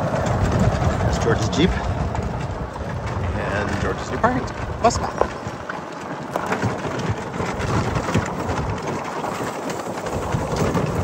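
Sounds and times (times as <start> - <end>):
tyres crunching on gravel: 0.0 - 11.0.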